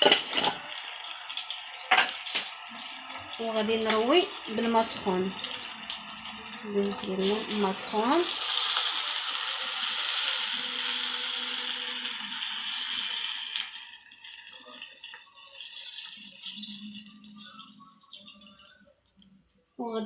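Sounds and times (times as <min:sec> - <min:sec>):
hot water poured into a pot: 0:00.0 - 0:19.1.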